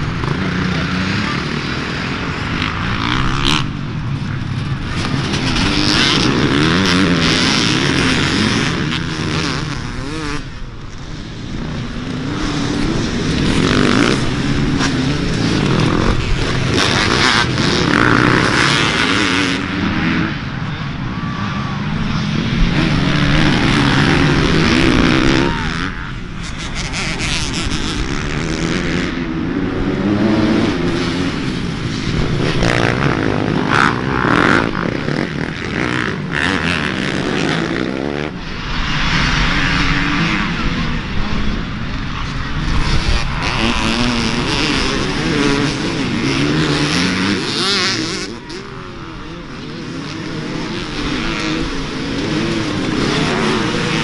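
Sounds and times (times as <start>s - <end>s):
dirt bike engines racing: 0.0s - 54.0s.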